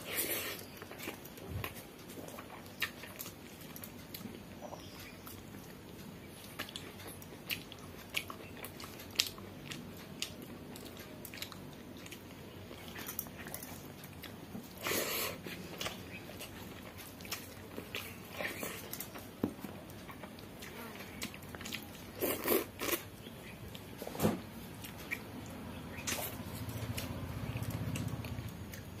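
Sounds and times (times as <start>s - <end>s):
chewing with mouth clicks: 0.0s - 23.9s, 24.6s - 29.0s.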